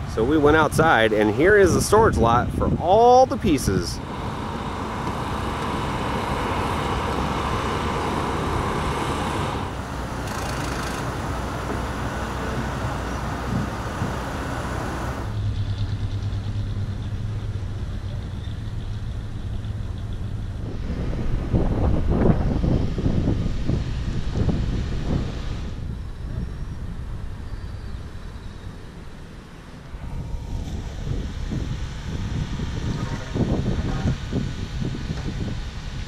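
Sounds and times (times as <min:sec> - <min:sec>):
road traffic rushing: 0:00.0 - 0:36.0
steady low hum: 0:00.0 - 0:36.0.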